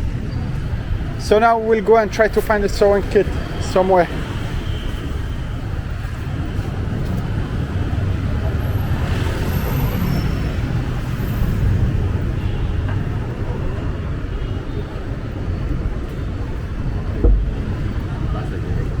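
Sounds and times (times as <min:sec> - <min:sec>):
city traffic rumbling: 0:00.0 - 0:19.0.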